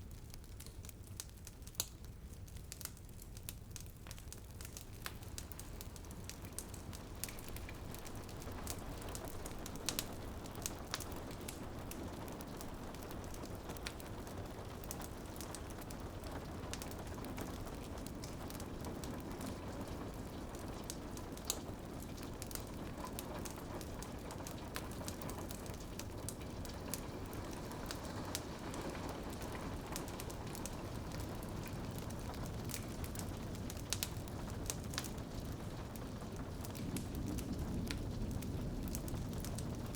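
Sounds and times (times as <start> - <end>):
rain on a window: 0.0 - 39.9
wood fire crackling: 0.0 - 39.9.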